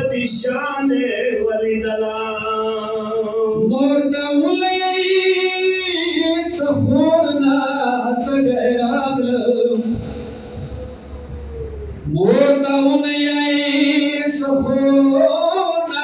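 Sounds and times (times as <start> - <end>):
man singing a lament into microphone: 0.0 - 10.6, 12.1 - 16.0.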